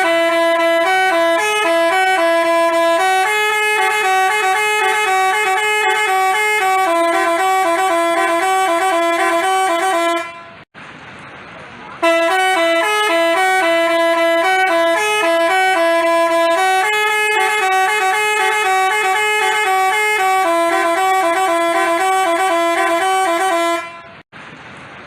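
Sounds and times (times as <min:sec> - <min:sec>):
bus horn playing a fast melody: 0:00.0 - 0:10.7, 0:12.0 - 0:24.2.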